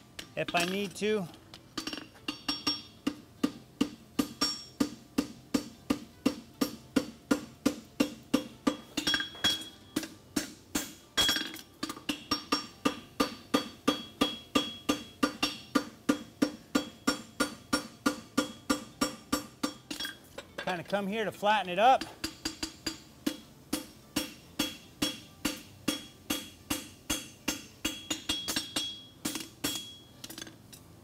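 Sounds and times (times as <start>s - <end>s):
hammer striking steel on anvil: 0.2s - 1.2s, 1.8s - 20.9s, 21.9s - 30.6s.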